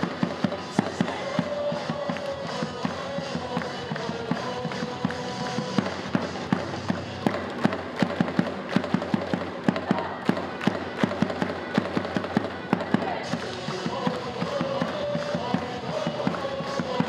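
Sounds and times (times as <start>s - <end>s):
crowd clapping: 0.0s - 17.0s
stadium cheer music: 0.0s - 17.0s.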